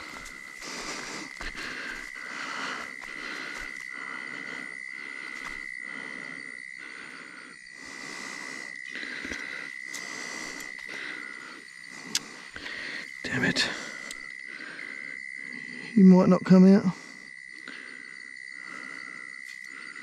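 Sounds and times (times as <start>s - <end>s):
pulsing insect buzz: 0.0s - 16.2s
high-pitched insect whine: 0.0s - 20.0s.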